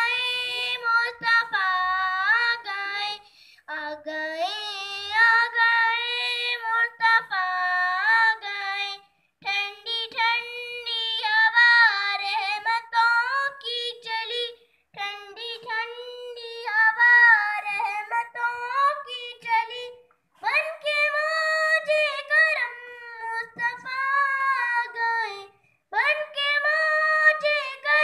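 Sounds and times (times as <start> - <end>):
girl singing devotional song: 0.0 - 28.0.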